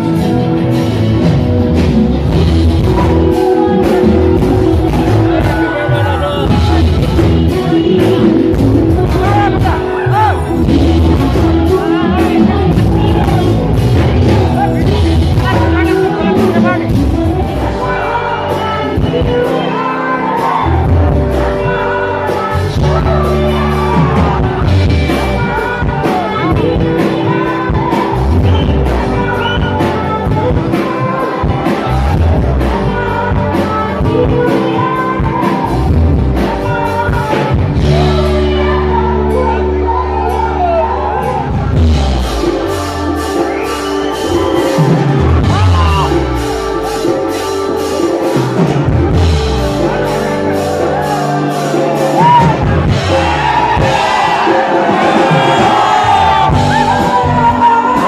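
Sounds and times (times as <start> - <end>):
guitar: 0.0 - 58.0
keyboard: 0.0 - 58.0
woman singing into microphone: 2.4 - 58.0.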